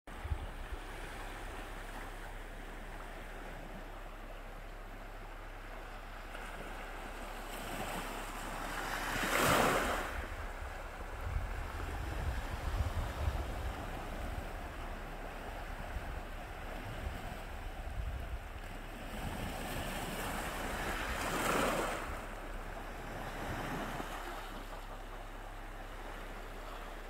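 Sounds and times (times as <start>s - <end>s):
sea waves washing on shore: 0.1s - 27.0s
wind rumbling on microphone: 0.1s - 27.0s.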